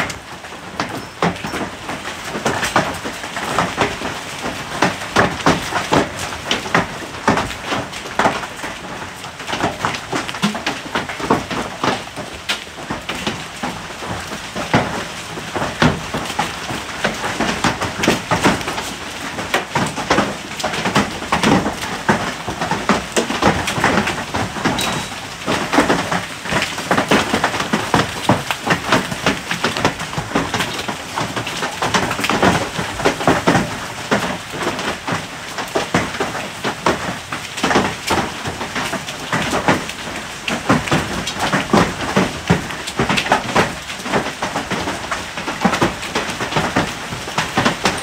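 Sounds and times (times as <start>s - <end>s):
hailstones clattering: 0.0s - 48.0s.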